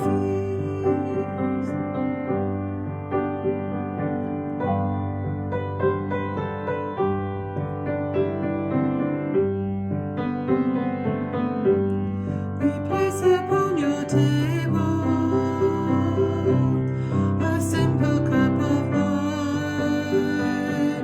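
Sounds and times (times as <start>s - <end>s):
piano playing held chords: 0.0s - 21.0s.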